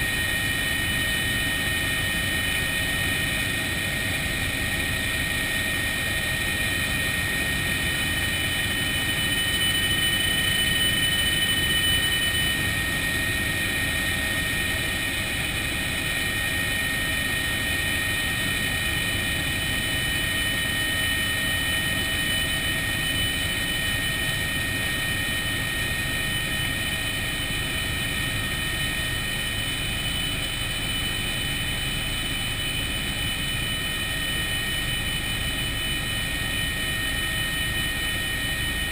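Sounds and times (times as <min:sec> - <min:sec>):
helicopter whine and rumble: 0:00.0 - 0:38.9.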